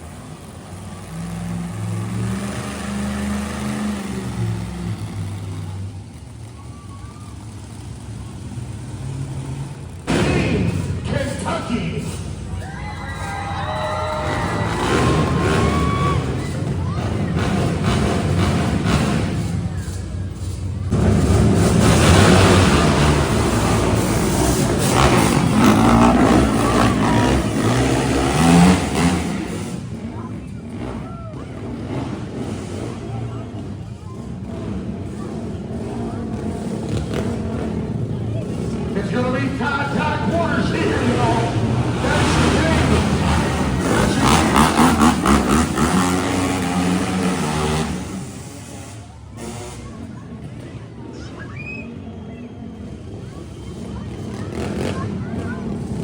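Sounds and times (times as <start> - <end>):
monster truck engine droning: 0.0 - 56.0.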